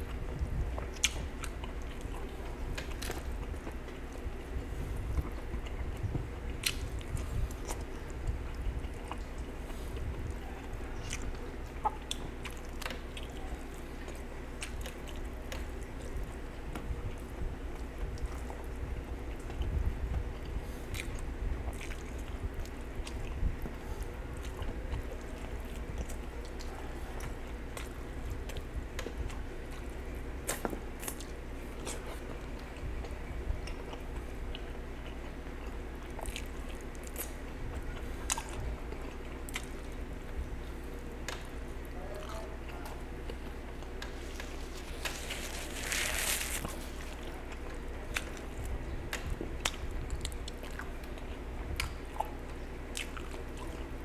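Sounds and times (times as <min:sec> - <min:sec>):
chewing with wet mouth smacks: 0:00.0 - 0:54.0
steady low hum: 0:00.0 - 0:54.0.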